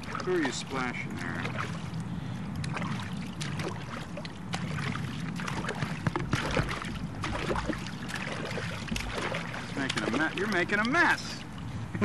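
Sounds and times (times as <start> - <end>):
children splashing water: 0.0 - 11.7
steady low hum: 0.0 - 12.0.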